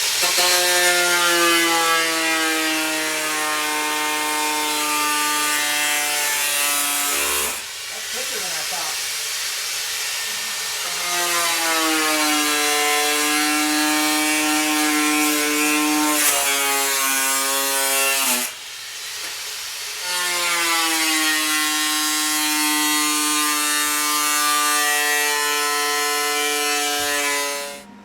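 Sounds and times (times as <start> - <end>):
hiss: 0.0 - 24.8
power tool cutting sheet metal: 0.0 - 28.0.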